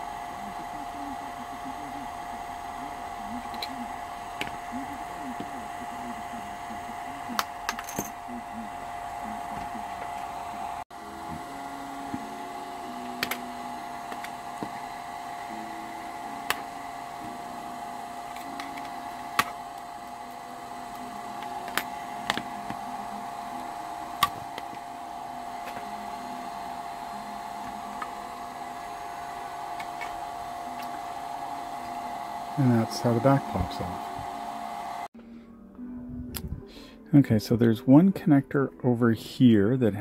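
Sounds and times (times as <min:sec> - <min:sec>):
steady hum: 0:00.0 - 0:35.1.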